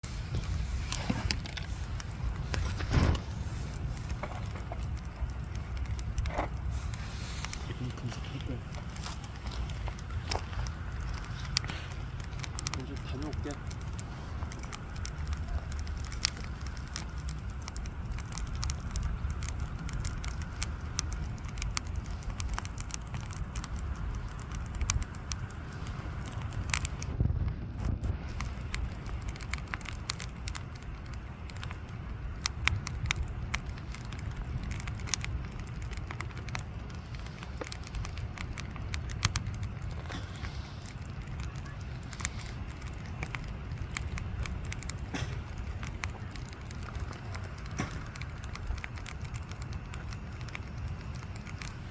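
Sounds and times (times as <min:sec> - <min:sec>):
steady low rumble: 0:00.0 - 0:51.9
wood fire crackling and popping: 0:00.0 - 0:51.9.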